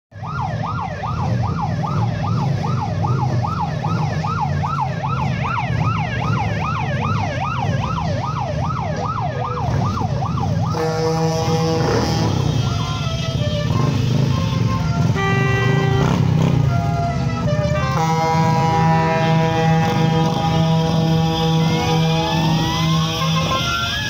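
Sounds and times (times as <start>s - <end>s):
electronic yelp siren: 0.2s - 24.0s
motorcycle engines rumbling: 0.2s - 24.0s.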